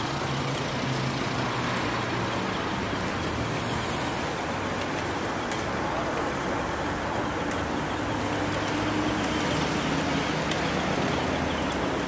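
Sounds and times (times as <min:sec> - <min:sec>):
road traffic: 0:00.0 - 0:12.0
vehicle engine hum: 0:00.0 - 0:12.0.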